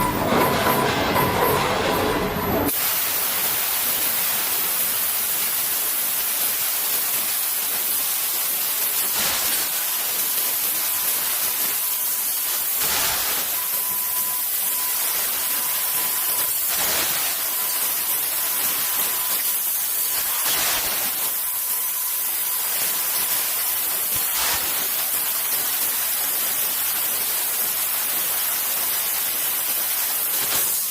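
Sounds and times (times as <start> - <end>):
laser cutter gas jet hissing: 2.7 - 30.9.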